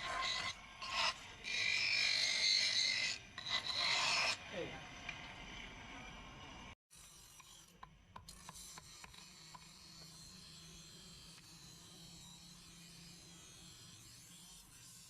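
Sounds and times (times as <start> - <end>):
filing metal by hand: 0.0 - 4.5, 6.9 - 15.0.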